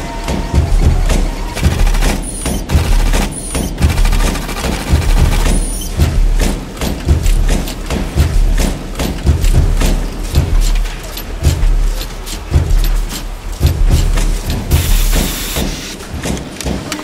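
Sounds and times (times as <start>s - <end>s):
low thumping beat: 0.0s - 17.0s
machinery clattering and knocking: 0.0s - 17.0s.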